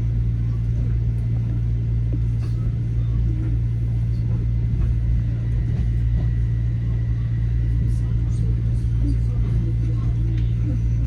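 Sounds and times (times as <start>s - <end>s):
constant low hum: 0.0s - 11.0s
train rumbling: 0.0s - 11.0s.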